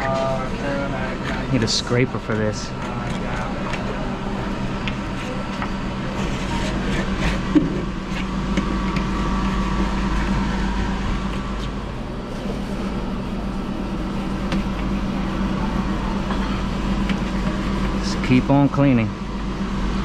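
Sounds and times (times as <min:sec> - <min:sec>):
refrigeration machine hum: 0:00.0 - 0:20.0.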